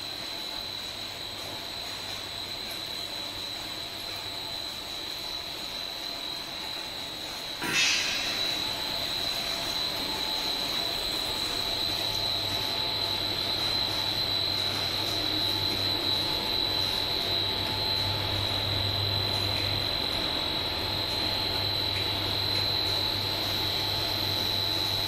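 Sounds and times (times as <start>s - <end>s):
machine drone with high whine: 0.0s - 25.0s.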